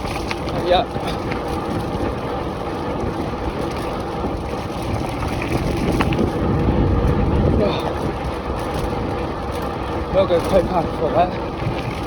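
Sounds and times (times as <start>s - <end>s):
road and tyre noise: 0.0s - 12.0s
wind buffeting microphone: 0.0s - 12.0s.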